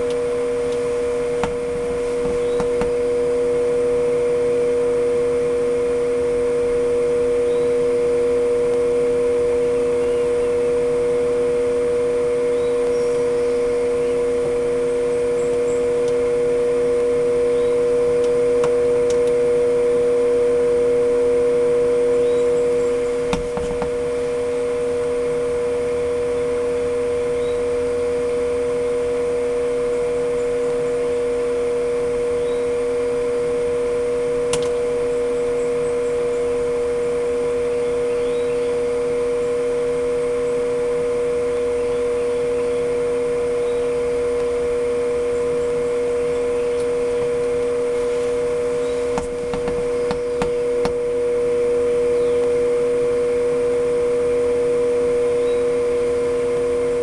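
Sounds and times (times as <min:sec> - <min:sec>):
electric motor humming: 0:00.0 - 0:57.0.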